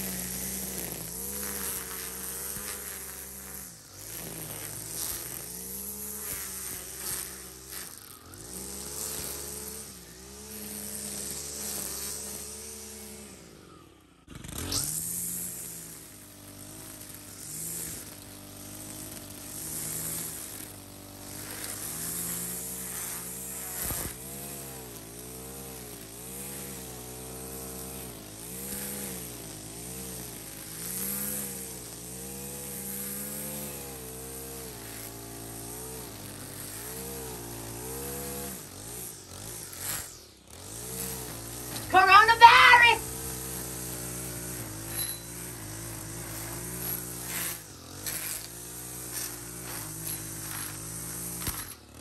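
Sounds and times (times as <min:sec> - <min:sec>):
string trimmer cutting grass: 0:00.0 - 0:52.0.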